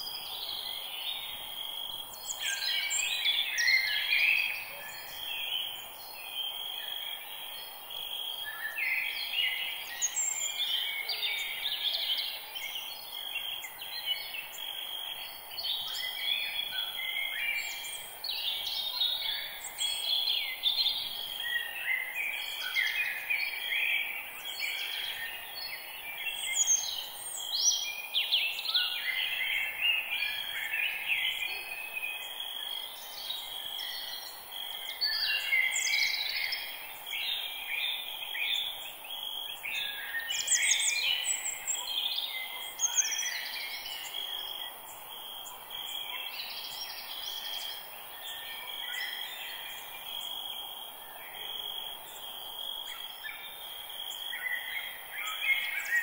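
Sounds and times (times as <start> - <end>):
chorus of birds chirping: 0.0 - 56.0
steady background hiss: 0.0 - 56.0.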